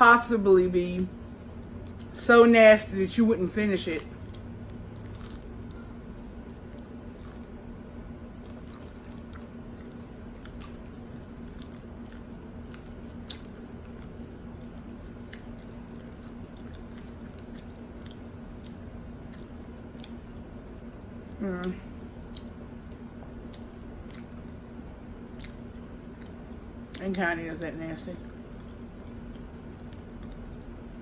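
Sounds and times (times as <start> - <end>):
steady low hum: 0.0 - 31.0
person chewing crunchy food: 4.1 - 21.0, 21.6 - 27.2, 28.2 - 31.0.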